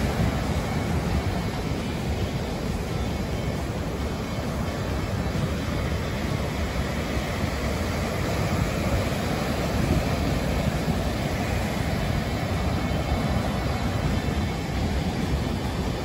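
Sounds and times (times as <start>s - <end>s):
surf breaking on beach: 0.0s - 16.0s
wind rumbling on microphone: 0.0s - 16.0s.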